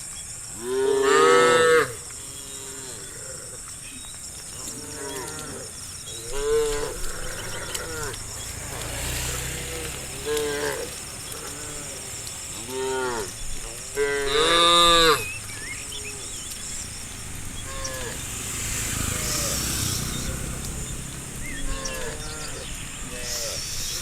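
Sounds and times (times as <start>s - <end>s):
cows mooing: 0.6s - 3.5s, 4.6s - 24.0s.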